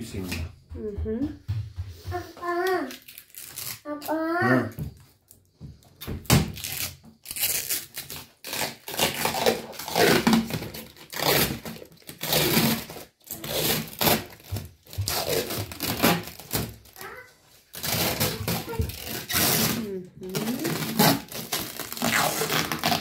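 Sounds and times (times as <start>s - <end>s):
plastic film peeling and crinkling: 2.4s - 4.4s, 5.3s - 23.0s.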